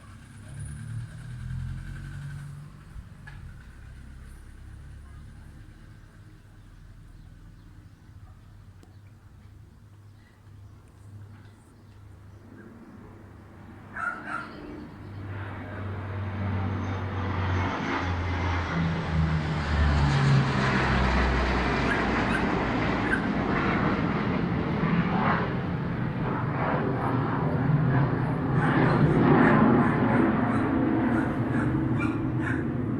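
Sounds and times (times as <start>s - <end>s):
airplane flying low overhead: 0.0s - 32.9s.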